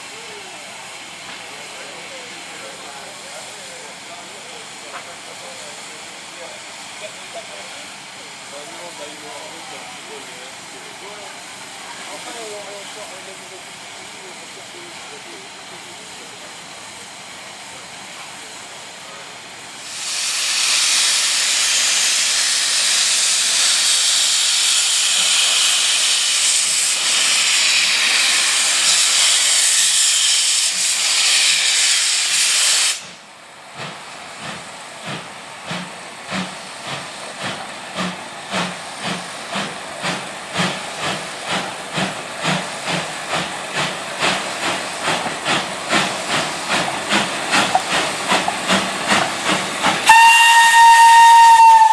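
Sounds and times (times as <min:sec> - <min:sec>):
steam hissing: 0:00.0 - 0:51.9
steam locomotive chuffing: 0:00.0 - 0:51.9.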